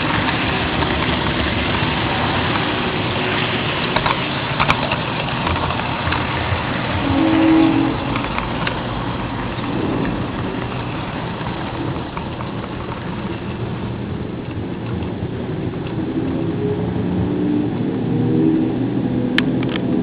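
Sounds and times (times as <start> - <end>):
model train wheels rattling: 0.0 - 16.1.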